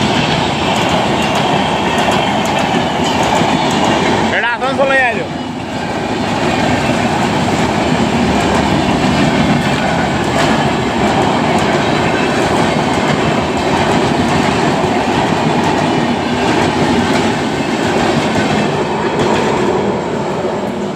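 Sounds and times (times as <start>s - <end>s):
wheels clacking over rail joints: 0.0s - 19.8s
train coaches rumbling past: 0.0s - 20.9s.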